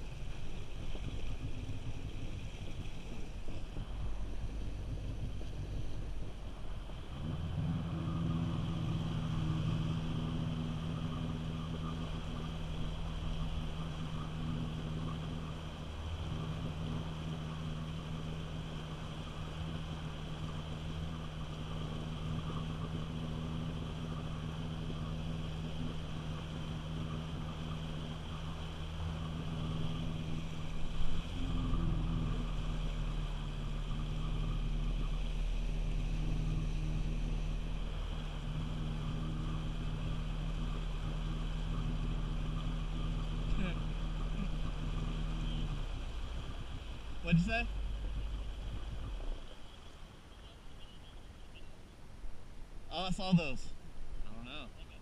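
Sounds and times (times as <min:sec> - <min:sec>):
jet ski engine running: 0:00.0 - 0:55.0
water rushing past hull: 0:00.0 - 0:55.0.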